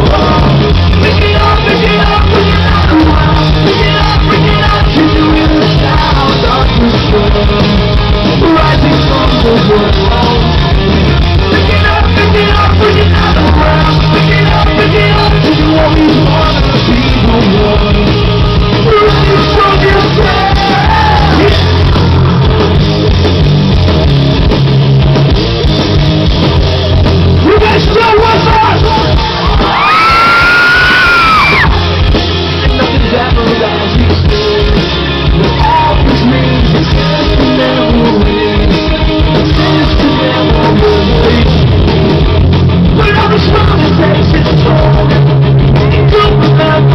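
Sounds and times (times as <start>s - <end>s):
rock music with singing: 0.0s - 46.9s.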